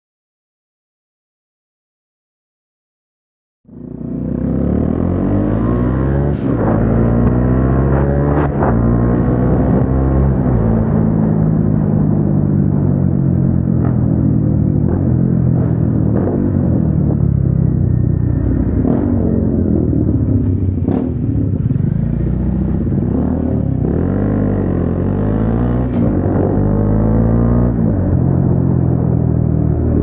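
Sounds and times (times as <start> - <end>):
motorcycle engine revving: 3.7 - 30.0.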